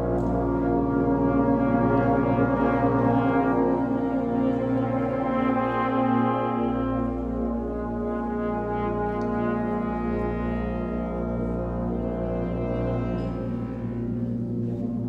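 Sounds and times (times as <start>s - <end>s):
concert band holding chords: 0.0s - 15.0s
trombones and low brass: 0.0s - 15.0s.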